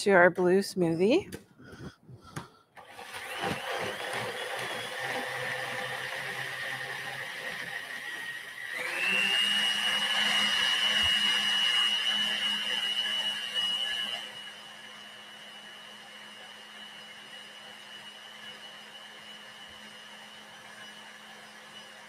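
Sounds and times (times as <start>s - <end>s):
blender whining: 2.8s - 22.0s.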